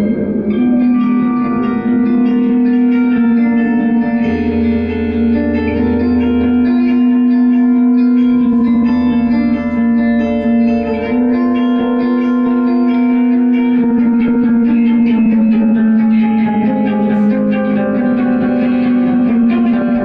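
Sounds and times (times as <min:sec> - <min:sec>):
electric guitar with reverb: 0:00.0 - 0:20.0.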